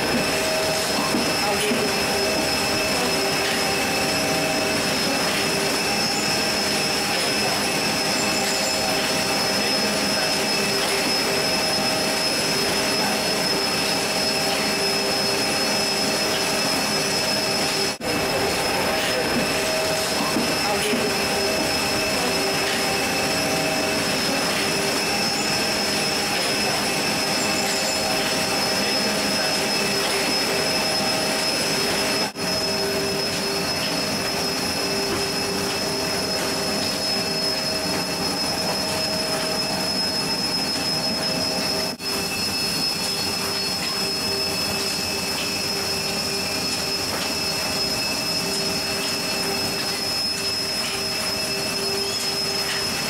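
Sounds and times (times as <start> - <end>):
high steady machine tones: 0.0 - 53.0.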